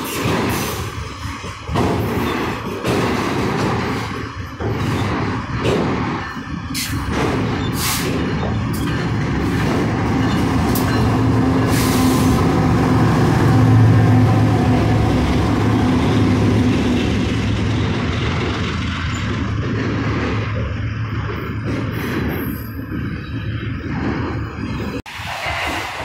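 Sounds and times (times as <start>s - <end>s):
container cars rumbling past: 0.0s - 26.0s
diesel locomotive engine drone: 0.0s - 26.0s
train wheels rumbling and clacking: 0.0s - 26.0s.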